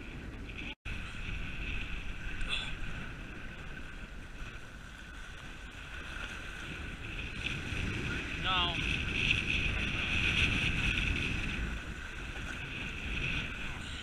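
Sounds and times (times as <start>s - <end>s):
sea water washing against rocks: 0.0s - 14.0s
wind buffeting microphone: 0.0s - 14.0s.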